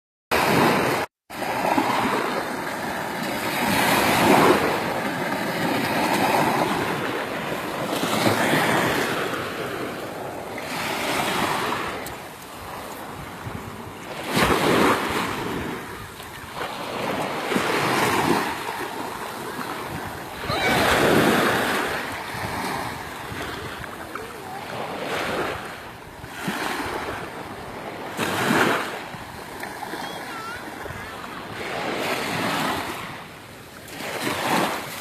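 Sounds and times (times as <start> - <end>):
sea waves washing onto beach: 0.4 - 35.0.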